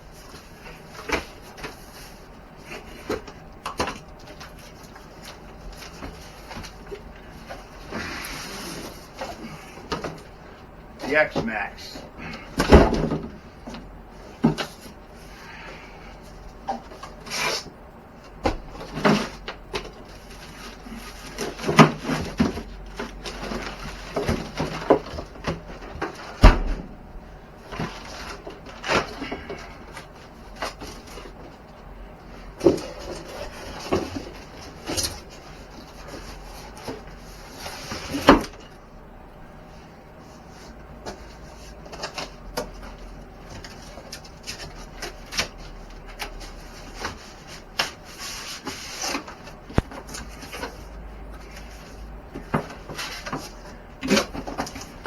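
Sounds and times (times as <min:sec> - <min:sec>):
cardboard rustling and scraping: 0:00.0 - 0:10.6, 0:16.2 - 0:26.9, 0:27.5 - 0:38.8, 0:39.6 - 0:55.0.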